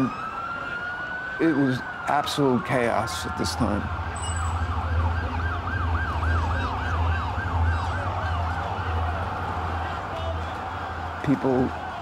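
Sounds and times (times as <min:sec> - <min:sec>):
emergency vehicle siren yelping: 0:00.0 - 0:12.0.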